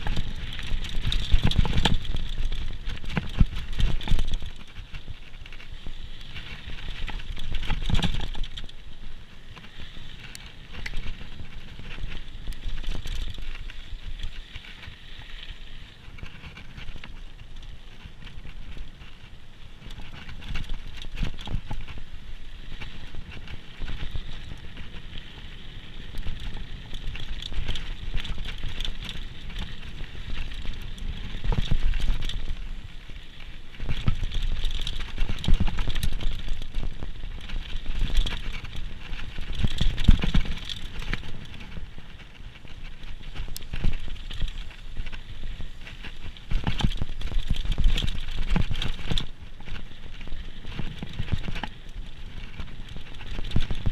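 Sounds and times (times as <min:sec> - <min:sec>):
mountain bike rattling over rough trail: 0:00.0 - 0:53.9.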